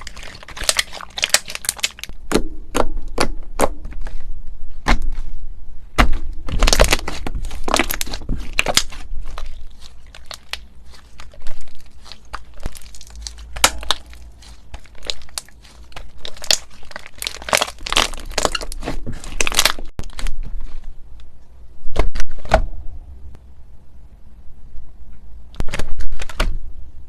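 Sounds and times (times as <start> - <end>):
crinkling and crackling by hand: 0.0 - 22.6, 25.0 - 26.6.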